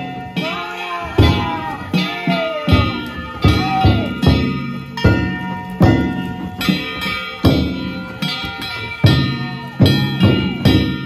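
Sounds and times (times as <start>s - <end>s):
taiko drum strikes: 0.0s - 8.0s, 9.0s - 11.0s.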